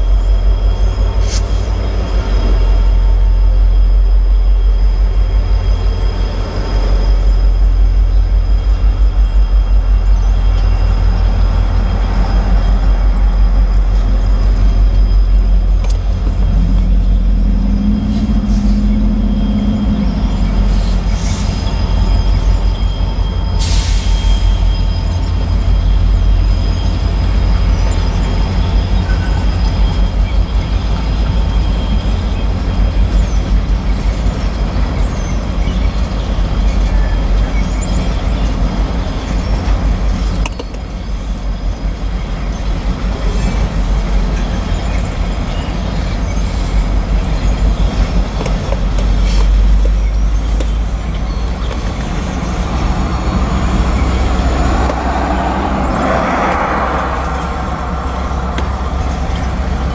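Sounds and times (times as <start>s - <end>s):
freight train rumbling past: 0.0s - 59.9s
steel wheels clattering on rails: 0.0s - 59.9s.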